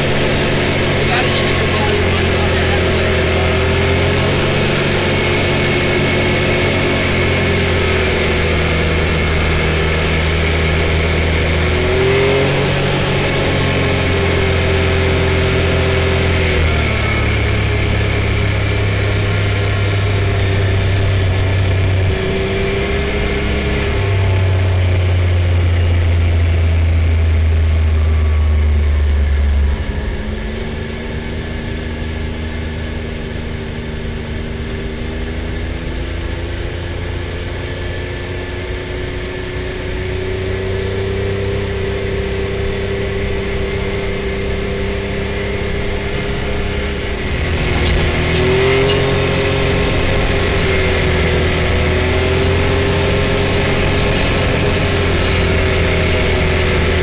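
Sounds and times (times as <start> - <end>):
tyres on gravel road: 0.0 - 57.0
vehicle engine running: 0.0 - 57.0.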